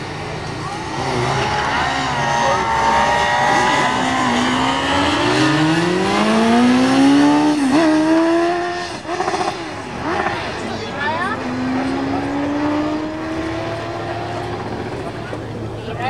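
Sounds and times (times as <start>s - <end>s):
motorcycle engine accelerating: 0.0s - 15.8s.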